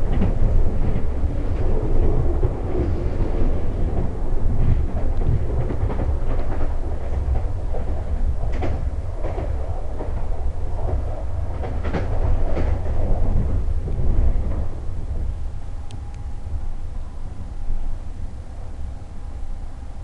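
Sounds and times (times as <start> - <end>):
track clacks: 0.0 - 16.7
train wheels rumbling on rail: 0.0 - 20.0.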